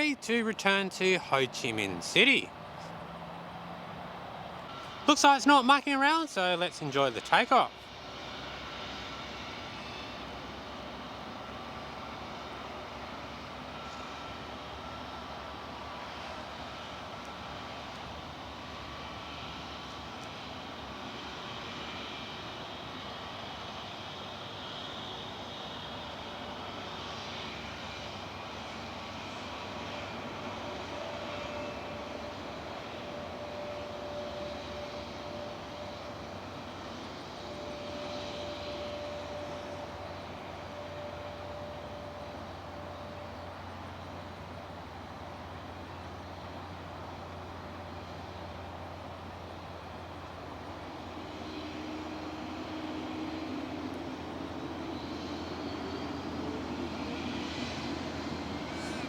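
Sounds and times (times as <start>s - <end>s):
distant jet engines at takeoff: 0.0s - 59.0s.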